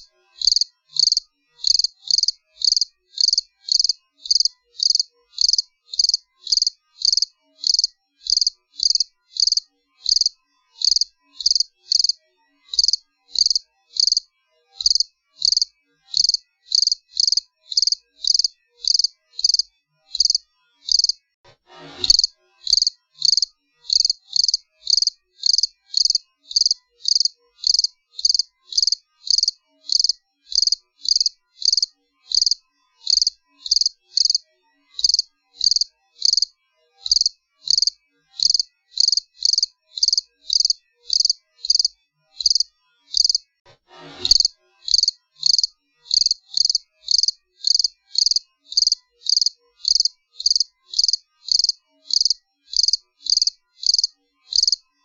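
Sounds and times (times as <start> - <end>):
cricket chirping: 0.0 - 14.2, 14.8 - 21.2, 22.1 - 34.4, 35.0 - 36.5, 37.1 - 43.4, 44.3 - 54.8.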